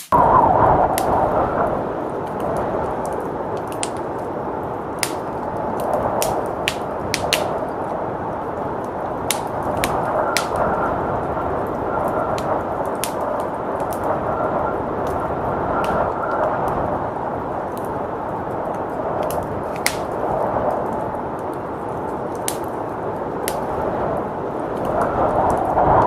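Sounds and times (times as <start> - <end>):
blizzard wind rushing: 0.0 - 26.0
wood fire crackling: 0.0 - 26.0.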